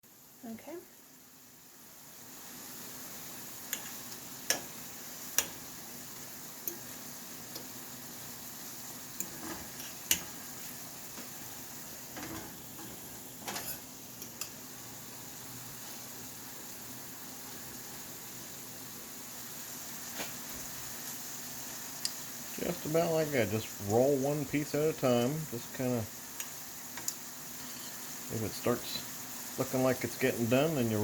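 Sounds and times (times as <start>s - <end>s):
meat sizzling in a frying pan: 0.1s - 31.0s.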